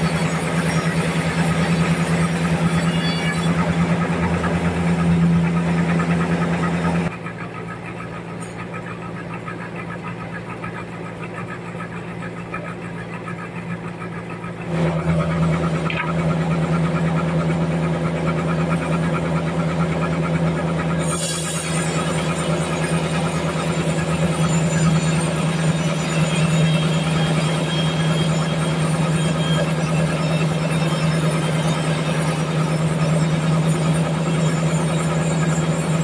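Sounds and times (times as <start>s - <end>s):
band sawmill blade sawing log: 0.0s - 36.0s.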